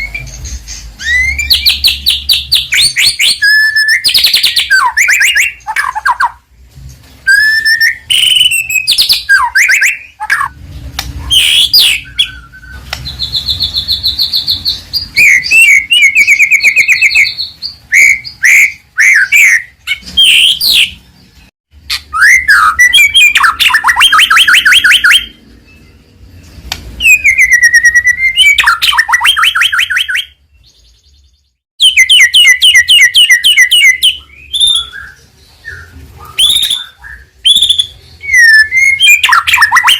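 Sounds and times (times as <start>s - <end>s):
songbird whistles and trills: 0.0s - 6.5s, 7.2s - 39.9s.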